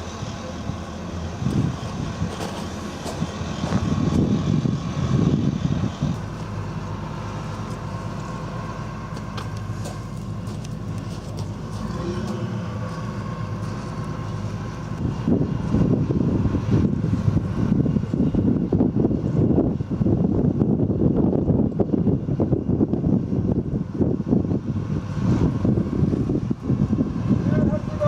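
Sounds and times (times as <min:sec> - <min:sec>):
heavy diesel engine drone: 0:00.0 - 0:28.0.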